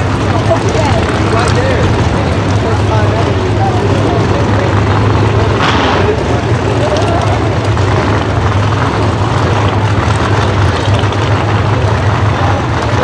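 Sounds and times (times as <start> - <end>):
race car engines idling: 0.0 - 13.0.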